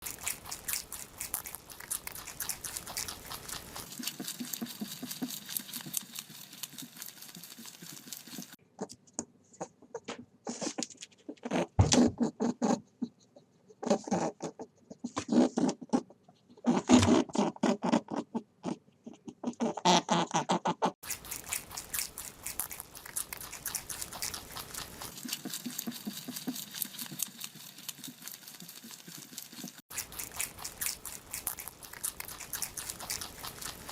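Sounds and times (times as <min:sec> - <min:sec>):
rabbits chewing food: 0:00.0 - 0:09.0, 0:09.6 - 0:33.9.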